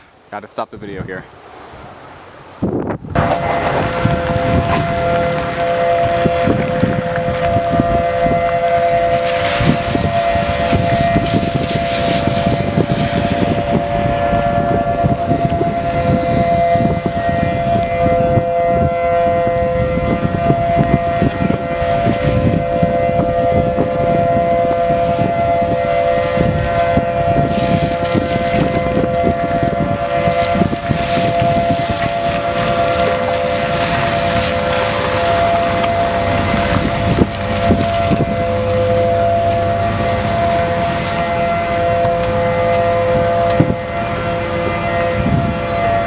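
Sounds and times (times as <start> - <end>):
wind buffeting microphone: 0.0 - 46.0
tornado warning siren two-note tone: 3.1 - 46.0.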